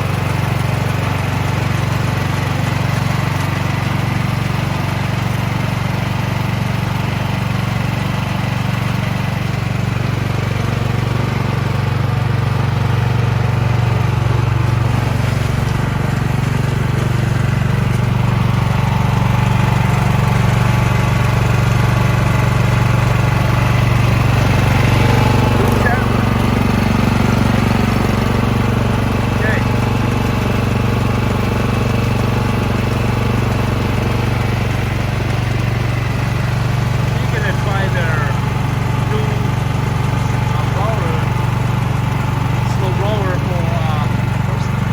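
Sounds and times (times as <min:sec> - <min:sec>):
snow blower engine running: 0:00.0 - 0:44.9.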